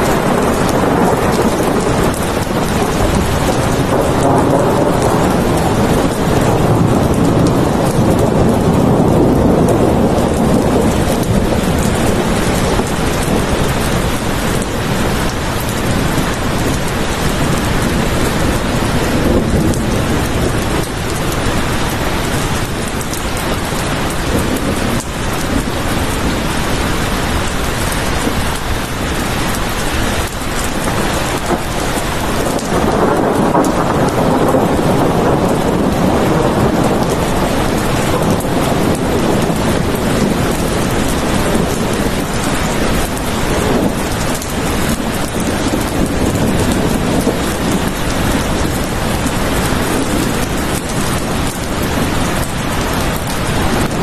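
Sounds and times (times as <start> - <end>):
deep rolls of thunder: 0.0 - 29.4, 30.5 - 54.0
heavy rain pouring: 0.0 - 54.0.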